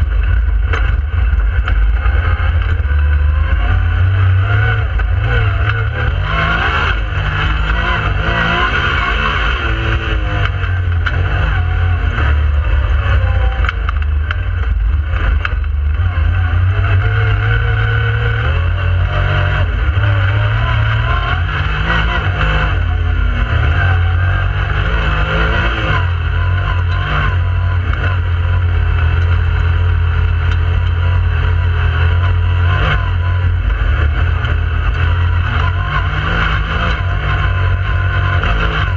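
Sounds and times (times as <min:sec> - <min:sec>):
engine revving: 0:00.0 - 0:38.9
low drone: 0:00.0 - 0:38.9.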